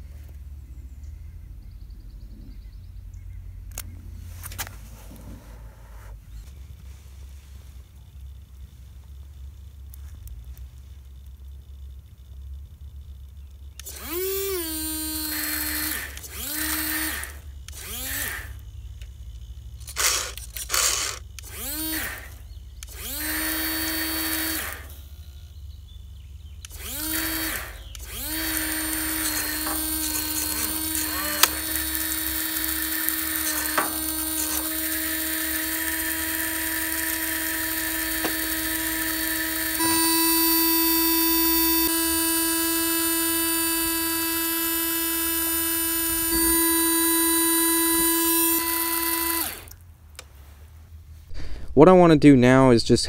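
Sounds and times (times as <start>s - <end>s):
electric water pump whining: 3.5s - 50.3s.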